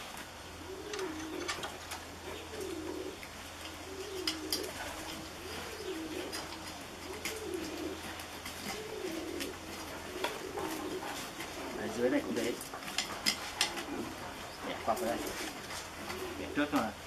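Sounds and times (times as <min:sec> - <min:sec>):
pigeon cooing: 0:00.5 - 0:17.0.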